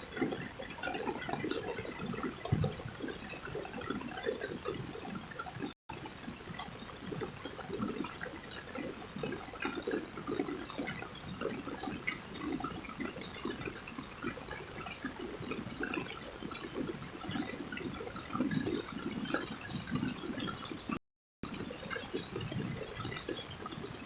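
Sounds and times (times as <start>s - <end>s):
gurgling running water: 0.0s - 24.0s.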